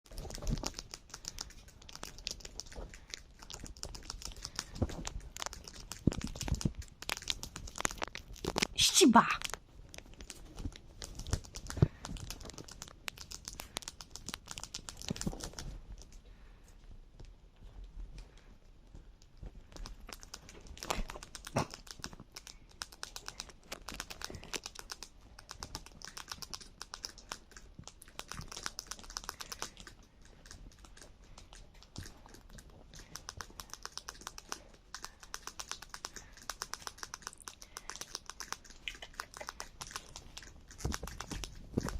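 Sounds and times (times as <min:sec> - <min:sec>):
rat gnawing on pasta: 0:00.0 - 0:16.6, 0:17.2 - 0:41.9.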